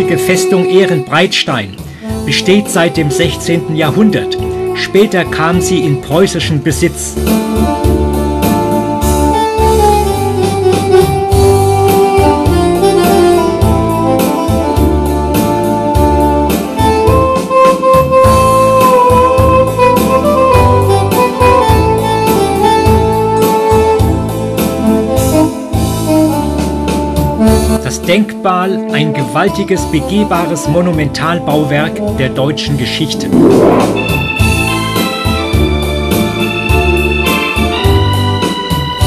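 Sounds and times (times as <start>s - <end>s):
keyboard melody with bass and beat: 0.0s - 27.8s, 32.8s - 39.0s.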